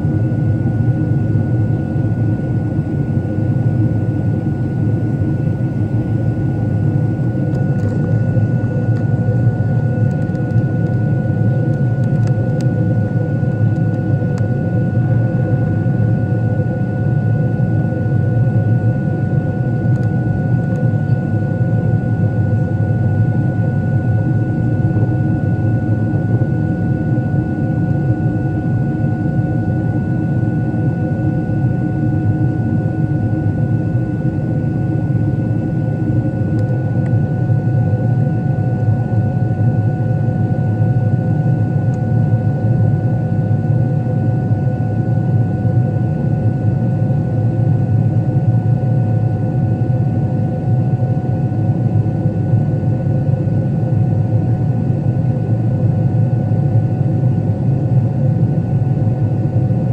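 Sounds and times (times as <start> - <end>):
airplane engine drone: 0.0 - 59.9.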